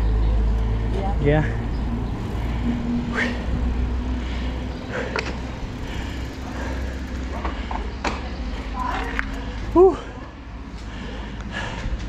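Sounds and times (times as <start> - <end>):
wind rumble: 0.0 - 9.7
bike tyres rolling on pavement: 0.0 - 12.0.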